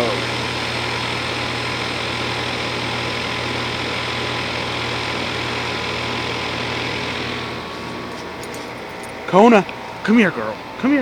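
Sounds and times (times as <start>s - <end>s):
compressor humming: 0.0s - 11.0s
fan whooshing: 0.0s - 11.0s.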